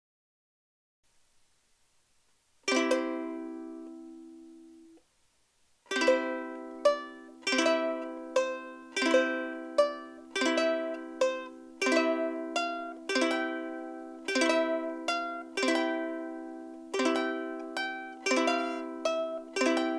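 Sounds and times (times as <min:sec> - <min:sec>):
ukulele rhythmic strumming: 0:02.6 - 0:05.0, 0:05.8 - 0:19.9
ukulele chord ringing: 0:02.7 - 0:05.0, 0:05.9 - 0:19.9.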